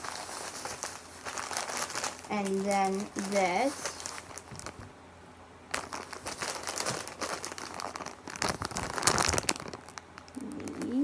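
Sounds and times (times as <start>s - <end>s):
plastic bag crinkling: 0.0s - 5.0s, 5.7s - 11.0s.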